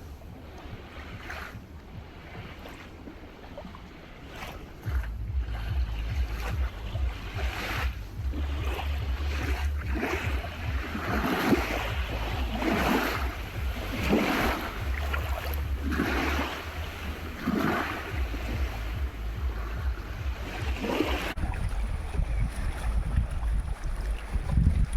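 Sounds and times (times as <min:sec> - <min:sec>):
small sea waves washing in: 0:00.0 - 0:24.9
wind on microphone: 0:00.0 - 0:24.9.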